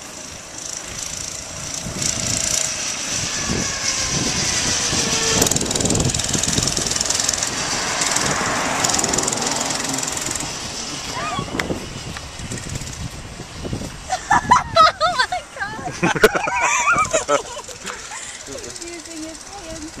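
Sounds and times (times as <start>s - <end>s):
minibike engine revving: 0.0s - 20.0s.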